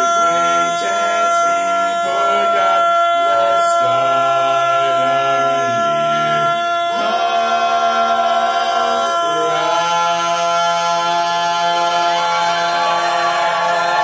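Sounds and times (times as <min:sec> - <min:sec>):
vocal quartet singing a cappella: 0:00.0 - 0:14.0.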